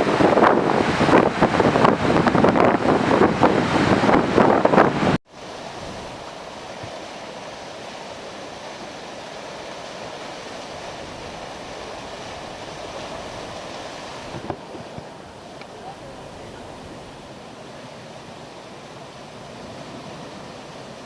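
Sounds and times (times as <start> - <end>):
river rushing roar: 0.0 - 21.0.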